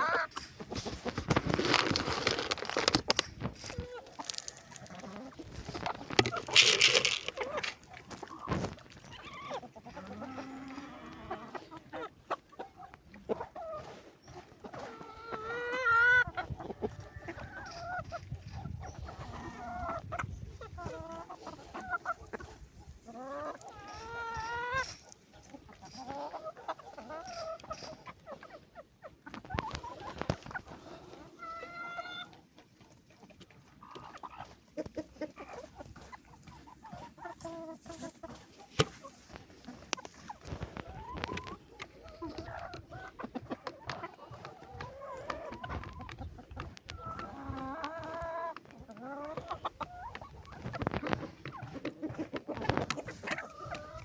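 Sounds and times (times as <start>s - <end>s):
chickens clucking: 0.0s - 54.0s
drawn-out wavering chicken calls: 0.0s - 54.0s.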